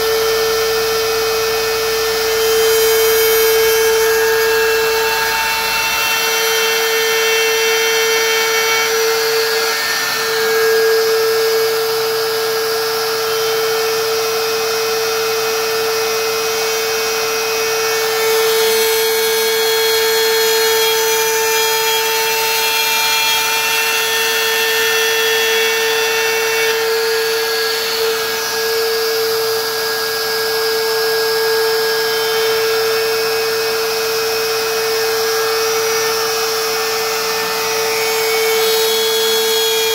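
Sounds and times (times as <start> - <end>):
router whining cutting wood: 0.0 - 39.9.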